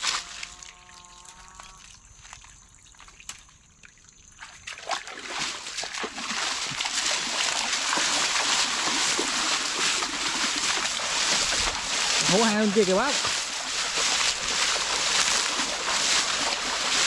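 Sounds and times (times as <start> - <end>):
splashing in shallow water: 0.0 - 17.0.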